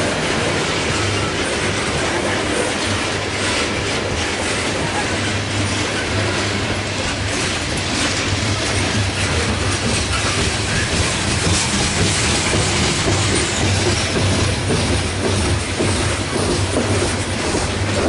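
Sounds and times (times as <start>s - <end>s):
freight train wheels rumbling: 0.0s - 18.0s
wheels and couplings clacking: 0.0s - 18.0s.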